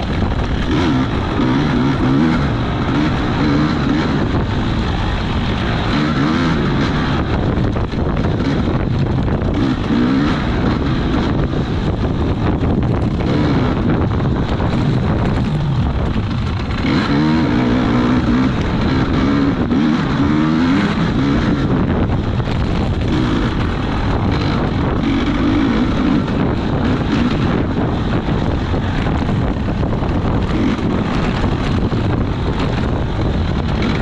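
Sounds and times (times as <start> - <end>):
racing engine revving: 0.0 - 34.0
wind noise: 0.0 - 34.0.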